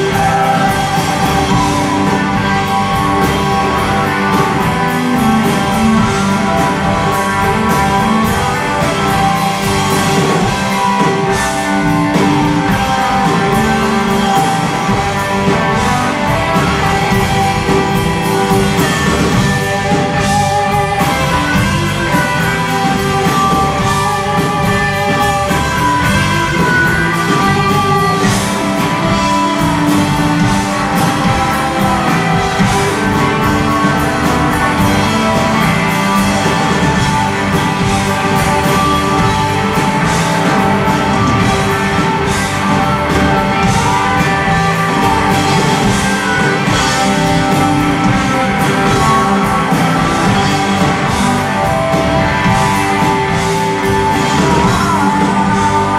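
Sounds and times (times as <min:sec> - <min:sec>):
bass guitar: 0:00.0 - 0:55.9
distorted electric guitars: 0:00.0 - 0:55.9
drum kit: 0:00.0 - 0:55.9
keyboards: 0:00.0 - 0:55.9.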